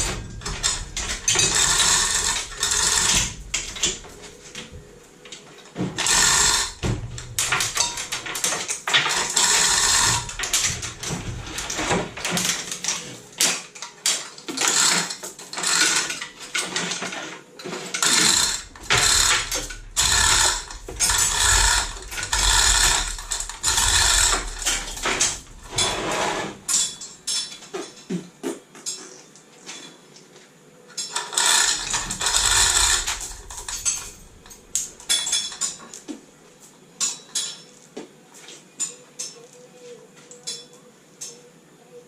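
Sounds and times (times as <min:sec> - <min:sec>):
metal tools clanking and rattling: 0:00.0 - 0:28.2, 0:30.9 - 0:36.1, 0:37.0 - 0:37.8.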